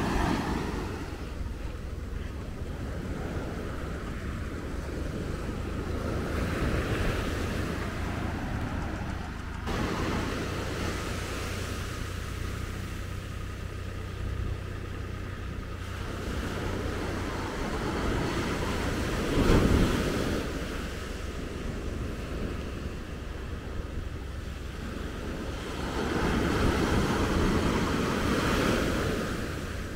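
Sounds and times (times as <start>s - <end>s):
surf washing onto beach: 0.0s - 29.9s
wind rumbling on microphone: 0.0s - 29.9s.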